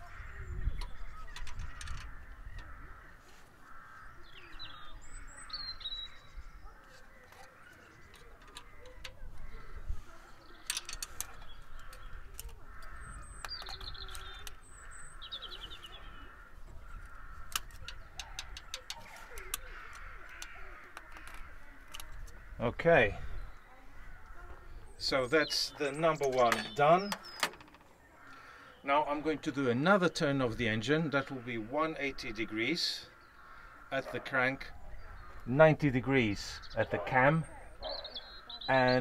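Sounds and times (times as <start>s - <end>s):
birds calling: 0.0s - 39.0s.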